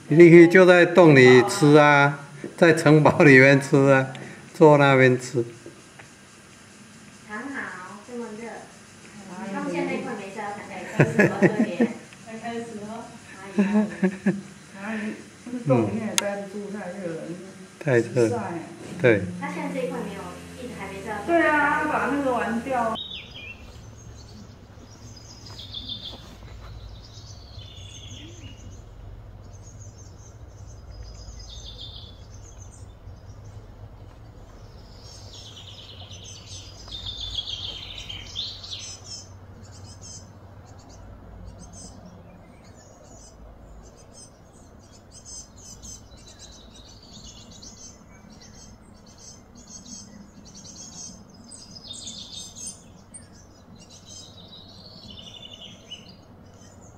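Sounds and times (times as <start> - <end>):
birds chirping: 0.0 - 56.9
steady low hum: 0.0 - 56.9.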